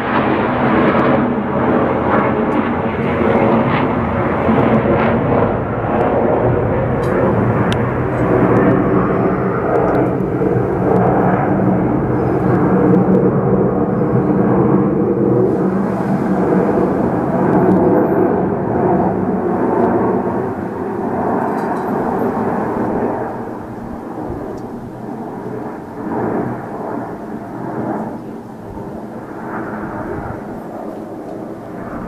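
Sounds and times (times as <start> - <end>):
aircraft engines flying over: 0.0 - 32.0.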